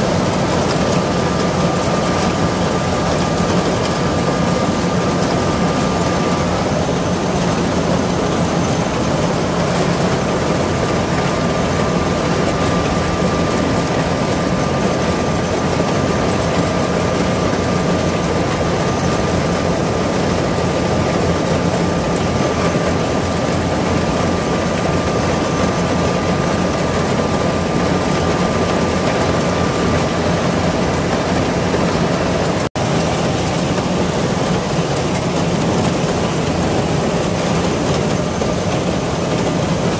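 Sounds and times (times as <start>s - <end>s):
combine harvester engine drone: 0.0s - 39.9s
thin steady machine whine: 0.0s - 39.9s.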